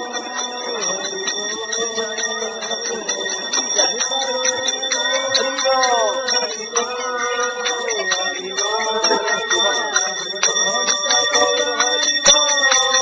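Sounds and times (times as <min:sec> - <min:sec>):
voices singing a devotional chant: 0:00.0 - 0:13.0.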